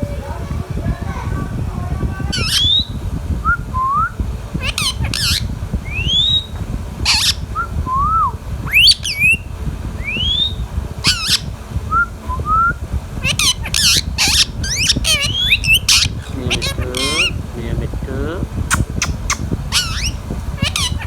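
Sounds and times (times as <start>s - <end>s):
parakeet whistles and squawks: 2.3s - 17.4s, 18.7s - 21.0s.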